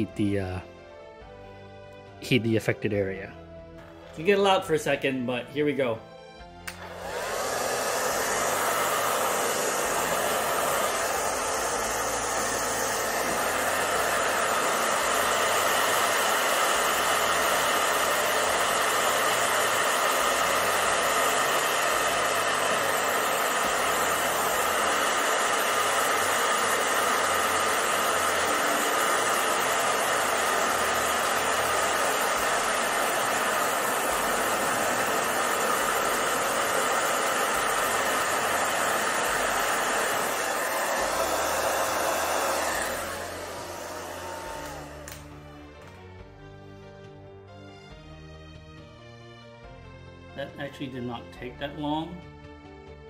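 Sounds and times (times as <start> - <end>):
hair dryer blowing: 3.8 - 46.8.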